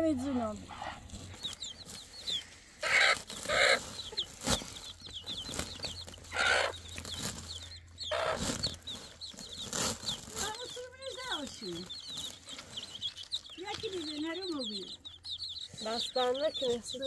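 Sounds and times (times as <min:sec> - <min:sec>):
chickens squawking: 0:00.0 - 0:17.0
small birds chirping: 0:00.0 - 0:17.0.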